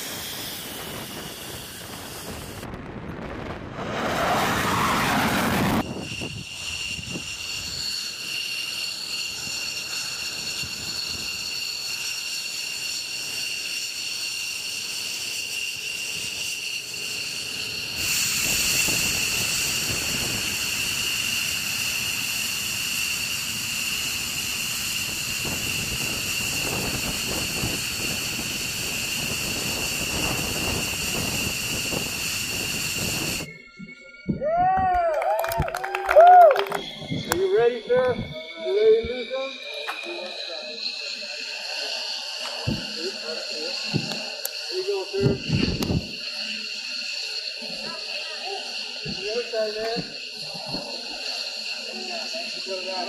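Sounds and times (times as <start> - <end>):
hiss: 0.0 - 2.8, 4.0 - 33.9, 35.2 - 53.0
jet engines whining: 0.0 - 34.4, 35.2 - 53.0.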